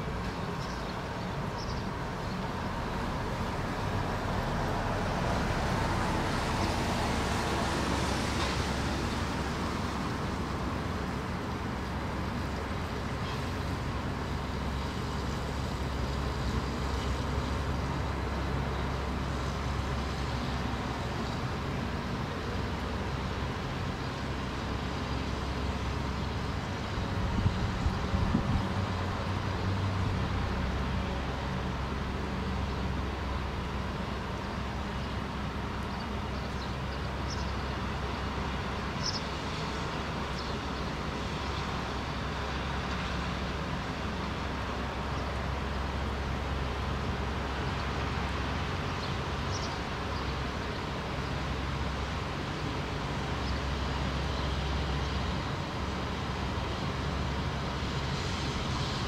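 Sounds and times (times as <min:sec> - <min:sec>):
city traffic noise: 0:00.0 - 0:59.0.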